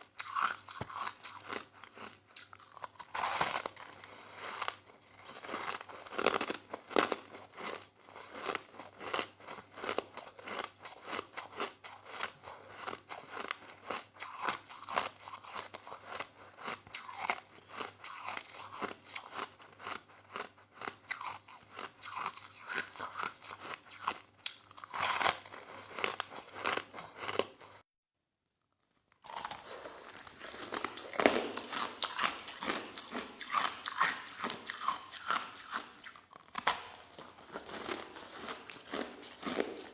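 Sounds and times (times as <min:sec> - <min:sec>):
crushed ice being chewed: 0:00.0 - 0:27.8, 0:28.8 - 0:39.9.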